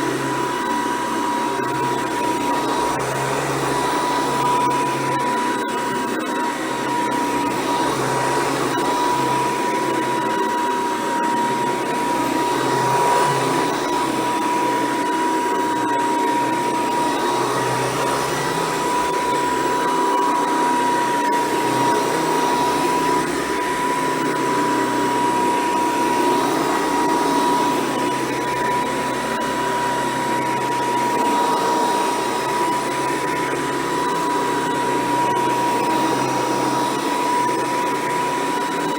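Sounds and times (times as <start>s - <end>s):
vacuum cleaner running: 0.0s - 5.9s, 6.5s - 38.9s.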